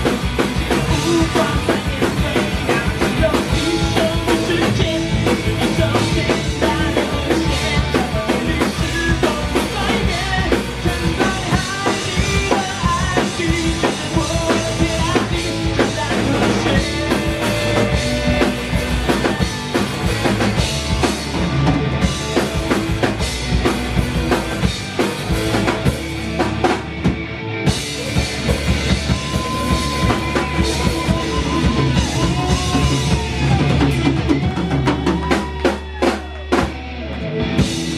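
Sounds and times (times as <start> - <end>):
rock band playing: 0.0 - 37.9.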